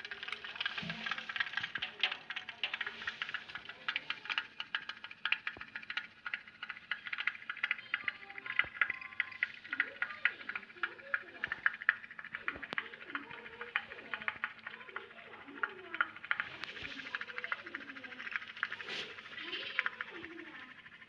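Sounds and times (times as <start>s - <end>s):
pop-pop boat ticking pops: 0.0s - 21.0s.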